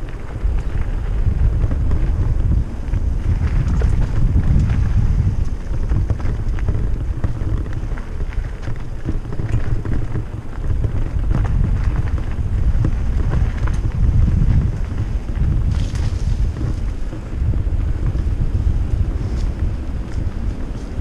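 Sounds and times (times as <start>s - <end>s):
bike rattles and knocks: 0.0s - 21.0s
wind buffeting microphone: 0.0s - 21.0s.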